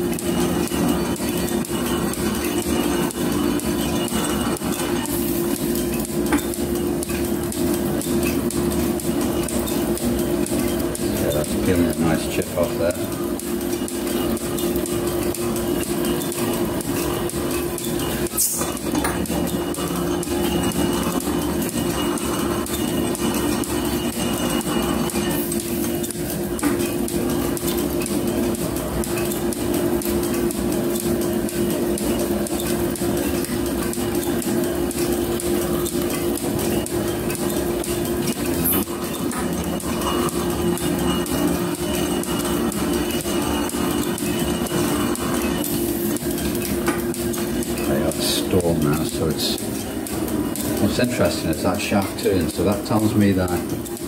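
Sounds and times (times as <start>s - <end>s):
gearing clicking and rattling: 0.0s - 54.0s
machine drive hum: 0.0s - 54.0s.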